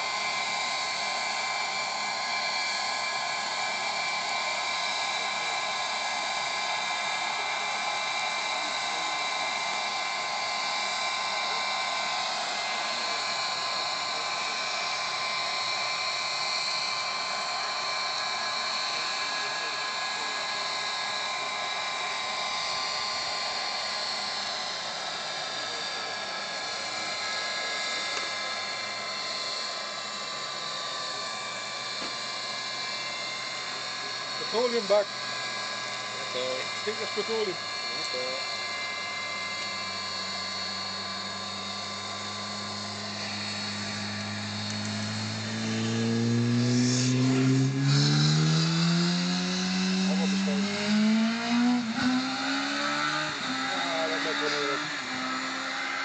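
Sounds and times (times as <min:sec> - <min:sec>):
model helicopter turbine whine: 0:00.0 - 0:56.0.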